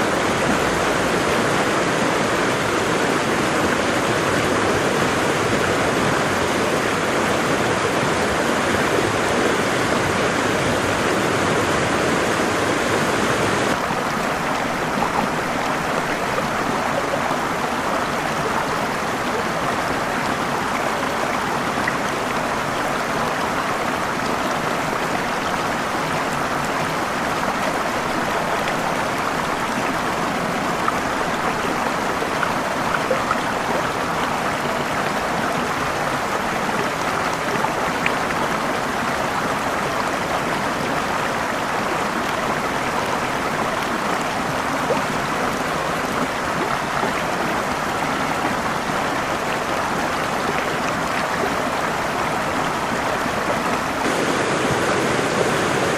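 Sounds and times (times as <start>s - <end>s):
rushing falling water: 0.0s - 55.9s.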